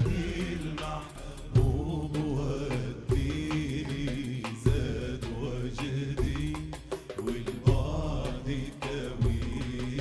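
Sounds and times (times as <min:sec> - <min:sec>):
frame drums and hand drum: 0:00.0 - 0:10.0
men singing devotional song: 0:00.0 - 0:10.0.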